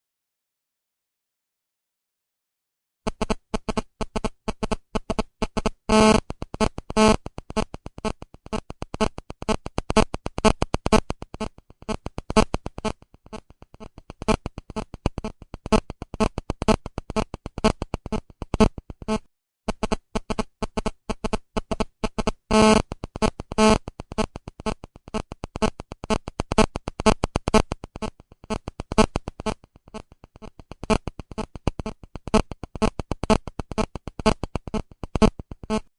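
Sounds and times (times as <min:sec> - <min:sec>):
phone vibration buzzing: 0:03.1 - 0:35.9.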